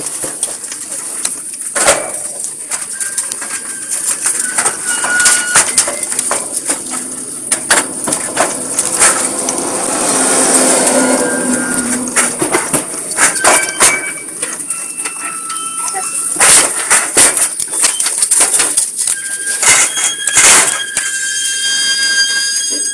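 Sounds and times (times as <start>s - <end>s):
gravel crunching under tracks: 0.0s - 22.8s.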